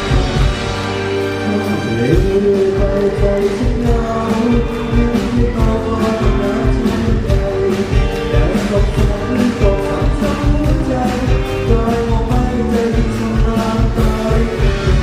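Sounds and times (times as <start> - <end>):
drums steady beat: 0.0 - 15.0
guitar and keyboard: 0.0 - 15.0
male voice singing: 1.4 - 15.0.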